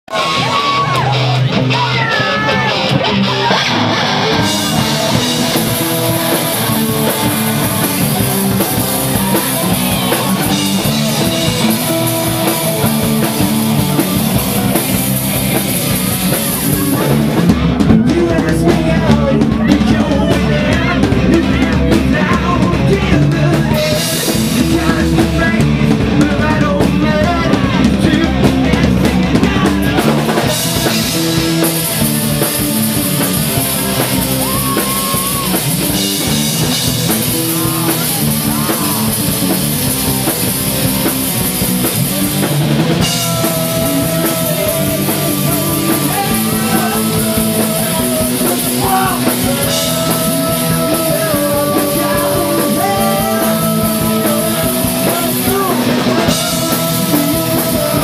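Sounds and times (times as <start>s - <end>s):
drum kit and cymbals: 0.1s - 58.0s
electric guitar: 0.1s - 58.0s
live rock band playing: 0.1s - 58.0s.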